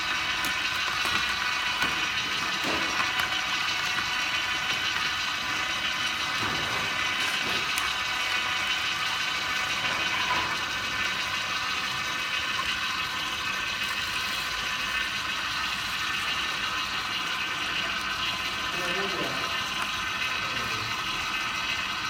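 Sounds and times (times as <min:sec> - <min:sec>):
juicer motor whining and grinding: 0:00.0 - 0:22.0.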